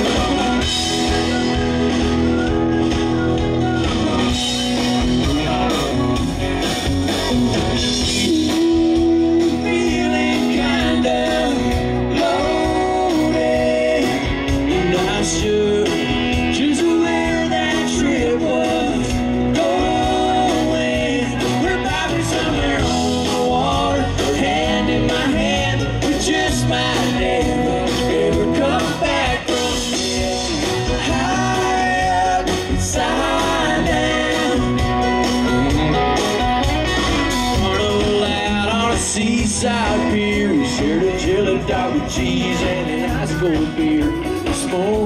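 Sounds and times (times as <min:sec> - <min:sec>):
country band playing: 0:00.0 - 0:45.0
lead vocal singing: 0:07.3 - 0:36.1, 0:37.5 - 0:45.0.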